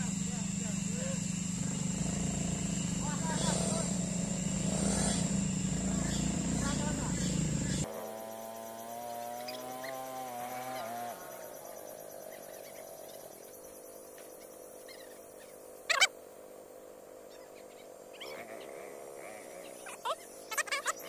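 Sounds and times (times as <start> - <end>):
scooter engines running: 0.0 - 14.4, 18.2 - 21.0.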